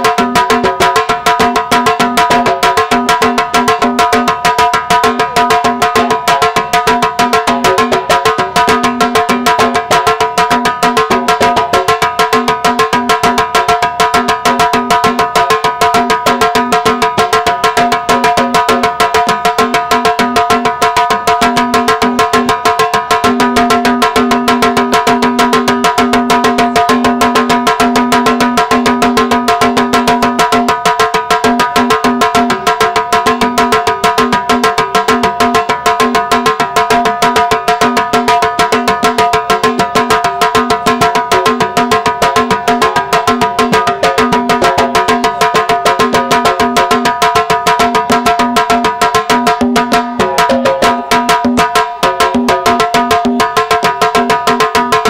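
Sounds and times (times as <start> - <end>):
drums beating fast rhythm: 0.0 - 55.0.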